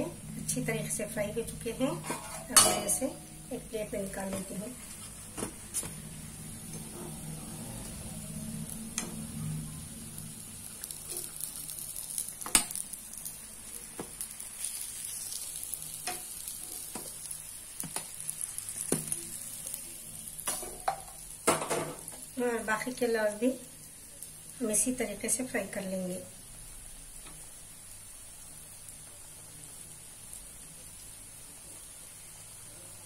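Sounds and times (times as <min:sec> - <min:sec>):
hot oil sizzling in a pan: 0:00.0 - 0:33.0.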